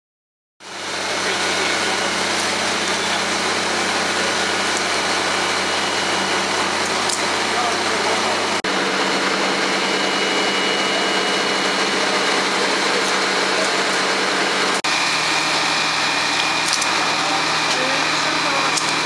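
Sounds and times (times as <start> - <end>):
fire engine drone: 0.6 - 19.0
thin steady whine: 0.6 - 19.0.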